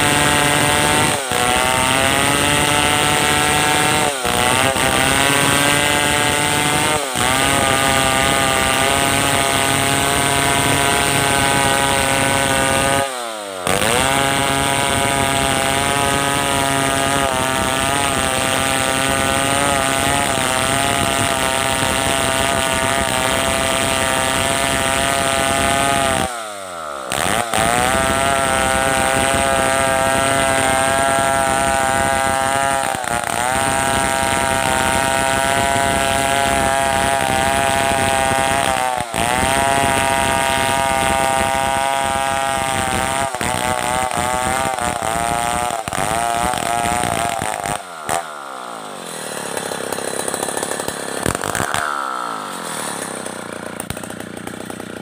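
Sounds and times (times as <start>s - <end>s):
chainsaw cutting a log: 0.0s - 55.0s
chainsaw throttle blip: 0.0s - 55.0s.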